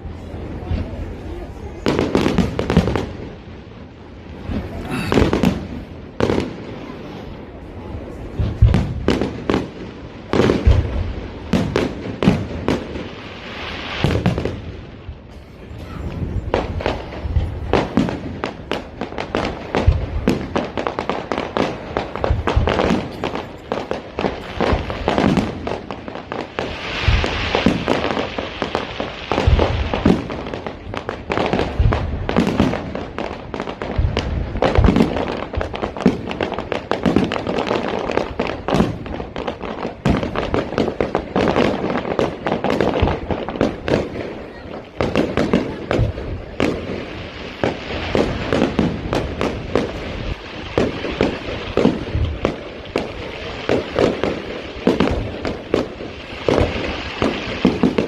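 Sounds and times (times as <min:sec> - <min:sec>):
fireworks bangs and pops: 0:00.0 - 0:58.0
hissing crackle of fireworks: 0:00.0 - 0:58.0.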